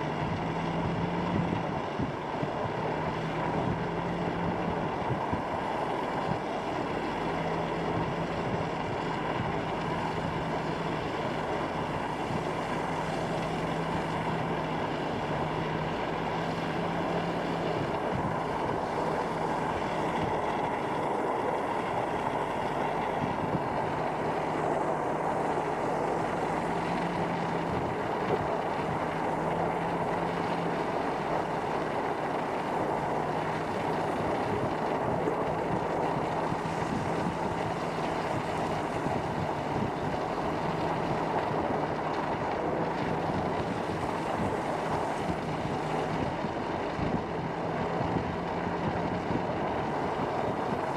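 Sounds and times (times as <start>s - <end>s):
low engine hum: 0.0s - 50.9s
tyre and road noise: 0.0s - 50.9s.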